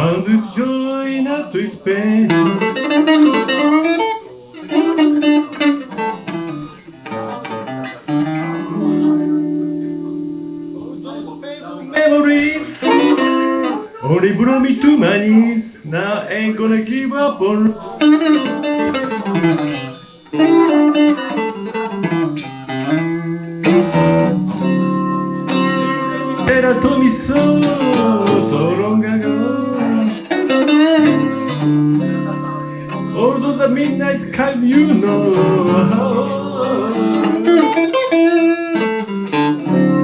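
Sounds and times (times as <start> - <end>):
person singing: 0.0 - 5.6, 11.9 - 22.0, 22.8 - 40.0
electric guitar blues notes: 0.0 - 40.0.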